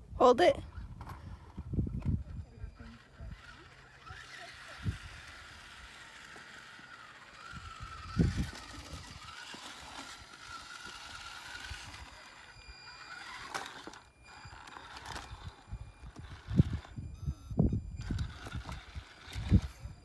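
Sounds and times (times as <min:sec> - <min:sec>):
small electric motor whining: 0:00.6 - 0:20.0.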